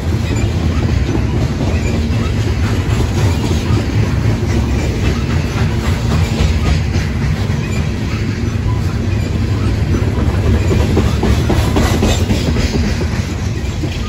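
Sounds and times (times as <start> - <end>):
steel wheels rumbling on rail: 0.0 - 14.0
wheels clacking over rail joints: 0.0 - 14.0.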